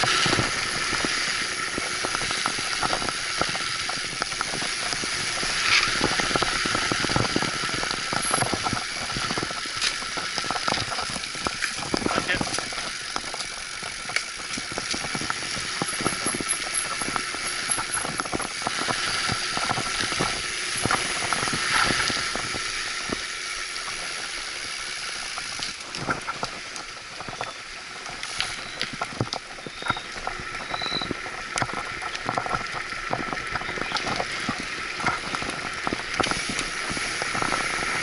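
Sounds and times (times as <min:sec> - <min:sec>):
bike rattling over bumps: 0:00.0 - 0:38.0
bike tyre and wind rush: 0:00.0 - 0:38.0.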